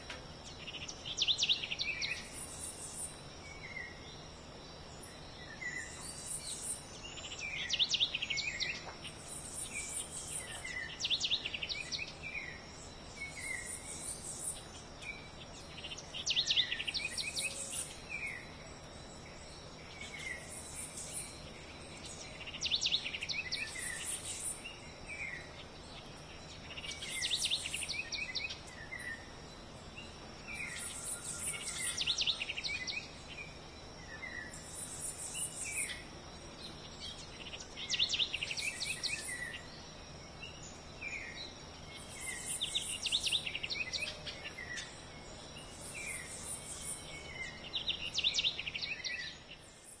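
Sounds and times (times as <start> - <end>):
high insect drone: 0.0 - 50.0.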